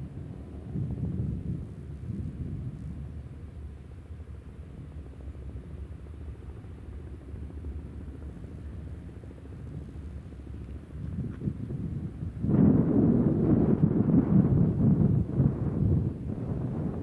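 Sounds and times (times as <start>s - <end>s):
jet engines rumbling in flight: 0.0s - 17.0s.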